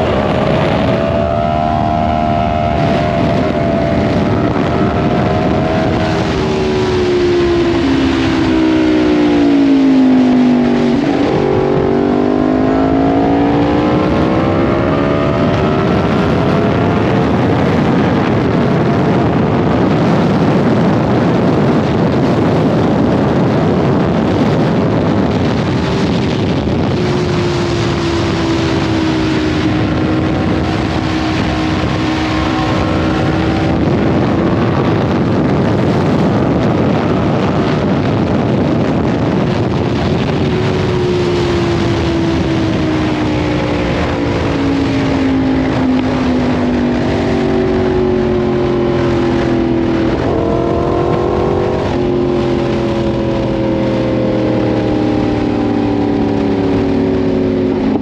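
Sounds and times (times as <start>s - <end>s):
motorcycle engine: 0.0s - 58.0s
wind rush on microphone: 0.0s - 58.0s.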